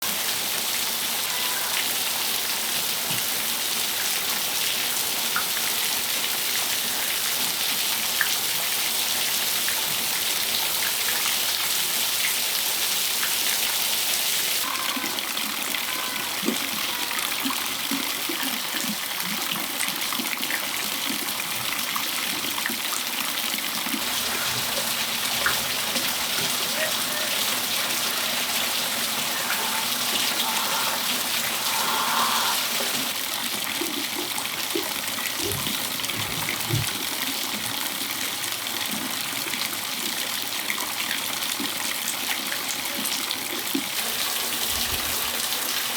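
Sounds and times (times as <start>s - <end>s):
rain falling on a patio: 0.0s - 45.9s.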